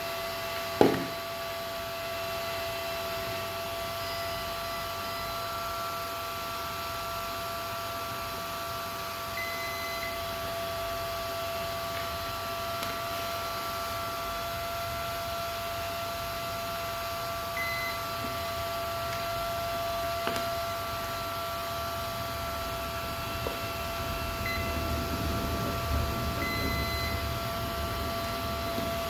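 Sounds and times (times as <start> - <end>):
electronic whine: 2.1 - 8.2, 9.1 - 29.0.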